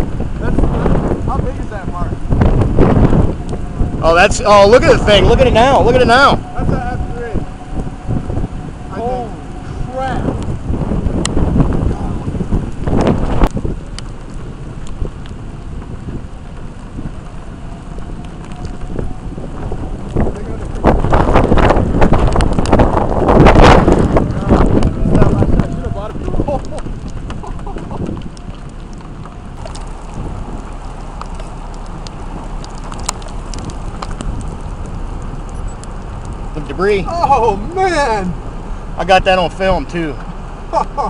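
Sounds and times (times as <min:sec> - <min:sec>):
raindrops ticking: 0:00.0 - 0:41.0
wind buffeting microphone: 0:00.0 - 0:41.0.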